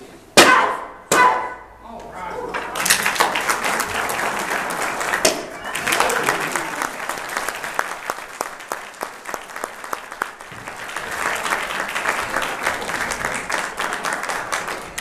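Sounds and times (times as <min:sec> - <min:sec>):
audience applauding: 0:02.7 - 0:15.0
sharp individual claps: 0:02.7 - 0:15.0.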